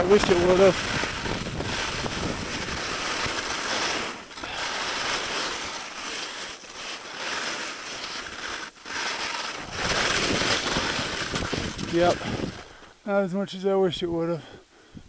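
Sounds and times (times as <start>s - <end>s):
skis scraping icy snow: 0.0s - 12.9s.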